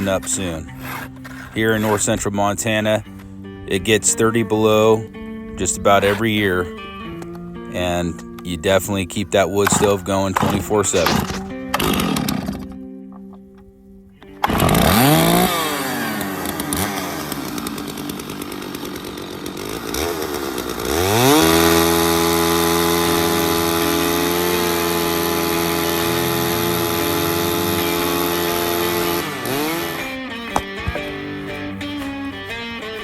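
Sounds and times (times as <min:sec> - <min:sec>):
chainsaw revving: 0:00.0 - 0:12.9, 0:14.2 - 0:33.0.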